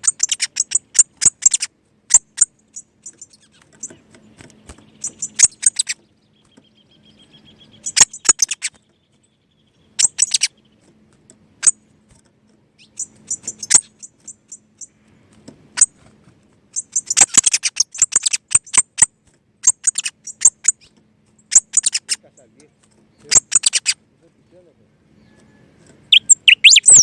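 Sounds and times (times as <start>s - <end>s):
small bird chirping: 0.0s - 11.0s, 12.7s - 15.2s, 16.7s - 27.0s.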